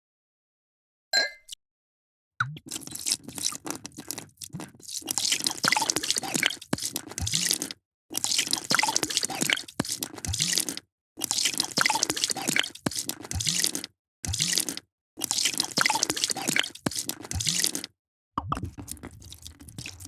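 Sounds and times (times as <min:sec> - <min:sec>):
drink pouring and splashing: 0:02.4 - 0:20.0.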